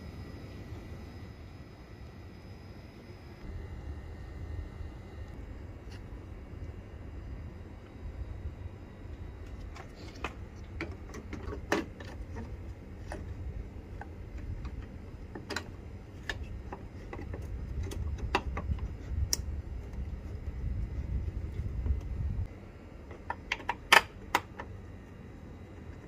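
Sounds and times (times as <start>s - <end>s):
steady low rumble: 0.0s - 23.4s.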